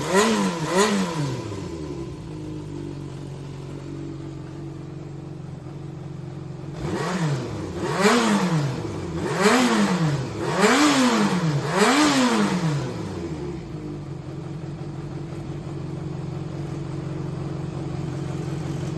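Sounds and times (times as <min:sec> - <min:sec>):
motorcycle engine idling and revving: 0:00.0 - 0:18.9.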